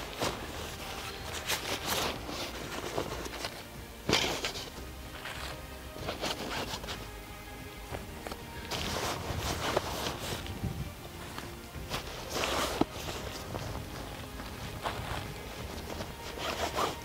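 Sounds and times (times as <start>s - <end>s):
background music: 0.0s - 17.0s
backpack rustling and scraping: 0.0s - 17.0s.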